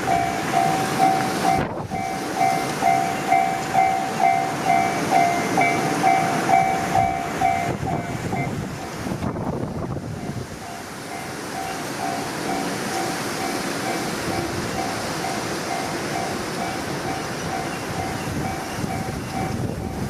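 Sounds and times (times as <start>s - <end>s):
level crossing bell ringing: 0.0s - 8.6s, 10.2s - 20.0s
train rumbling and rail clatter: 0.0s - 20.0s.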